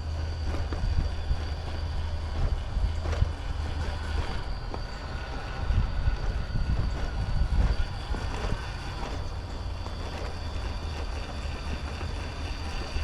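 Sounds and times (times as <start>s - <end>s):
electric motor whine: 0.0s - 13.0s
wind rumble on microphone: 0.0s - 13.0s.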